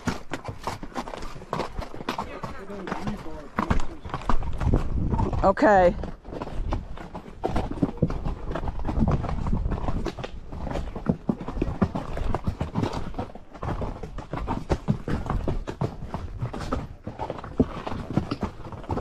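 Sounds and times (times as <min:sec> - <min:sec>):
horse hooves clopping: 0:00.0 - 0:19.0.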